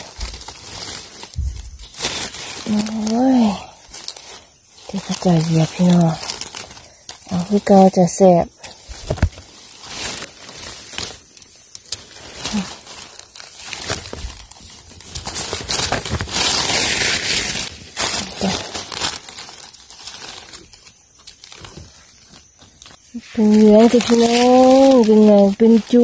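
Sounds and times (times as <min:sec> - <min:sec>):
dry leaves rustling and crackling: 0:00.0 - 0:26.0.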